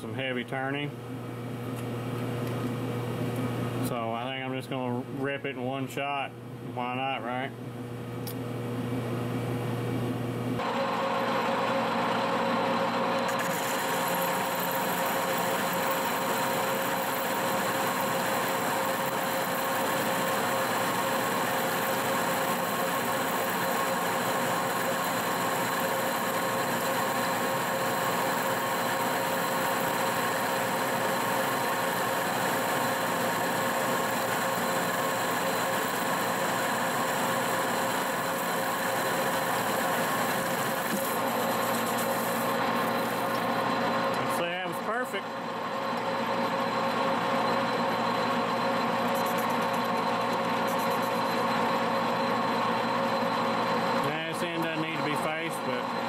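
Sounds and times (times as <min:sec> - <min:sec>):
machine hum: 0:07.6 - 0:56.0
lathe cutting steel: 0:10.6 - 0:56.0.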